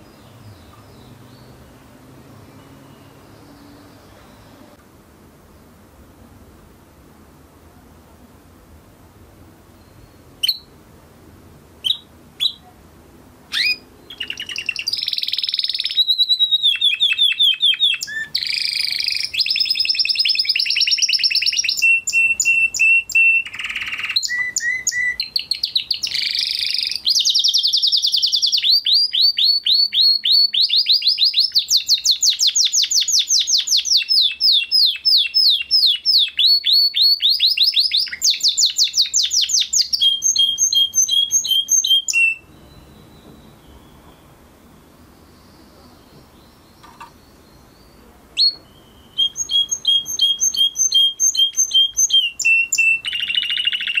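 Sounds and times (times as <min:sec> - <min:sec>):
canary singing trills: 0:00.0 - 0:04.8, 0:09.7 - 0:10.8, 0:11.8 - 0:12.8, 0:13.5 - 0:54.0.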